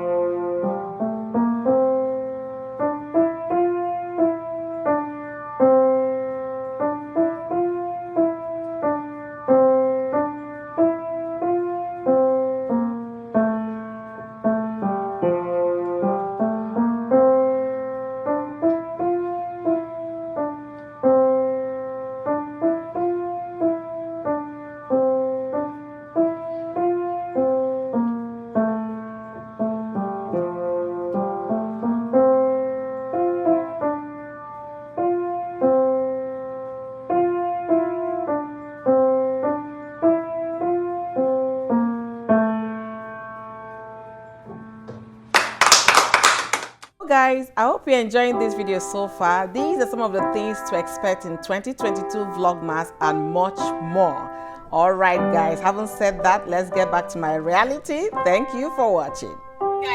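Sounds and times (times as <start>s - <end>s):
piano melody in chords: 0.0s - 45.8s, 47.9s - 59.9s.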